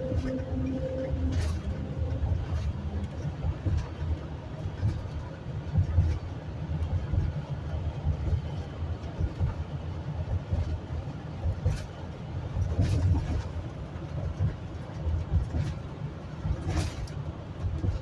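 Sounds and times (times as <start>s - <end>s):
vehicle engine and tyres rumbling: 0.0s - 18.0s.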